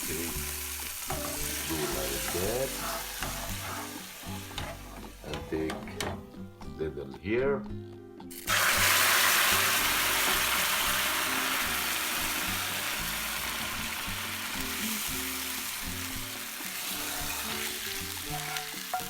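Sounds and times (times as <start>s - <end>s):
hot oil sizzling: 0.0s - 5.8s, 8.3s - 19.0s.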